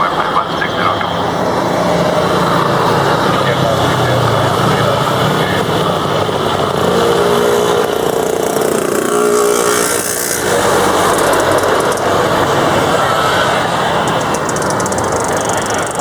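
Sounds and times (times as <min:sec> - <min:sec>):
airliner jet engines whine: 0:00.0 - 0:16.0.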